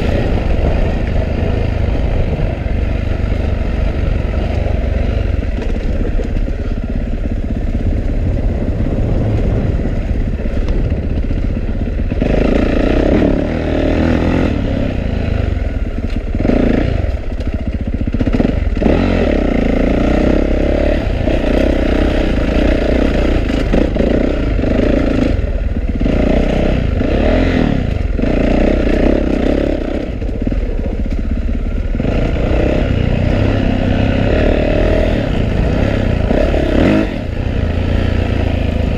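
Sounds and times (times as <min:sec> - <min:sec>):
motorcycle engine running hard: 0:00.0 - 0:38.9.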